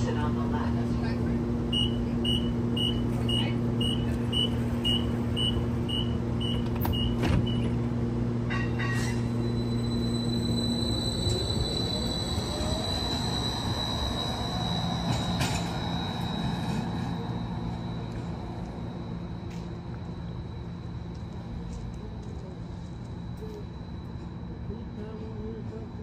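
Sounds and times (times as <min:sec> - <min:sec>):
streetcar low hum: 0:00.0 - 0:26.0
streetcar warning beeps: 0:00.0 - 0:26.0.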